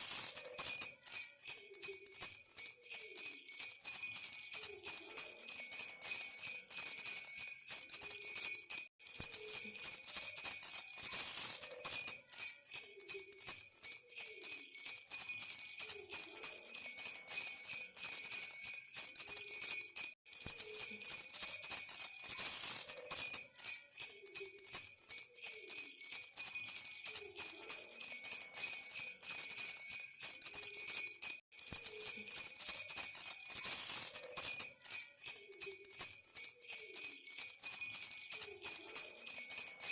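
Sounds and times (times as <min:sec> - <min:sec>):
baby rattle bells jingling: 0:00.0 - 0:39.9.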